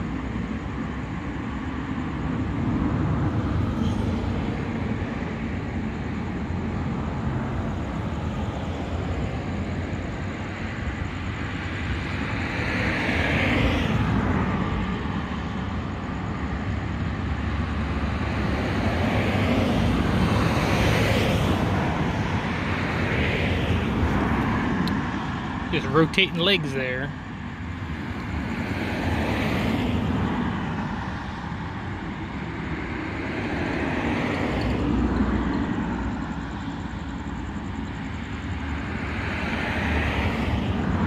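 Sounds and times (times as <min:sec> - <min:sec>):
road traffic rumble: 0:00.0 - 0:41.0
vehicles passing: 0:00.0 - 0:41.0.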